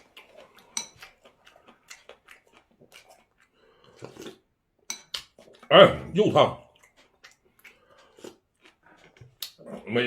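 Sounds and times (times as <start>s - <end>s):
chewing clicks and smacks: 0.0s - 4.4s, 5.0s - 5.7s, 6.7s - 9.9s.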